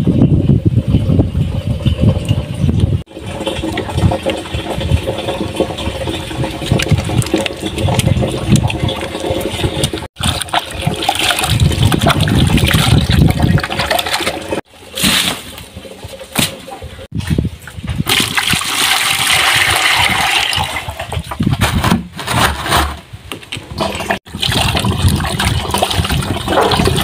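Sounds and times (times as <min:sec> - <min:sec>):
water splashing and pouring: 0:01.6 - 0:17.3, 0:18.0 - 0:21.9, 0:23.6 - 0:27.0.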